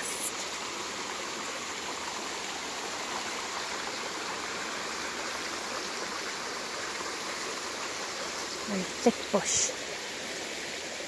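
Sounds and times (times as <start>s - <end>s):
creek rushing over boulders: 0.0s - 11.0s.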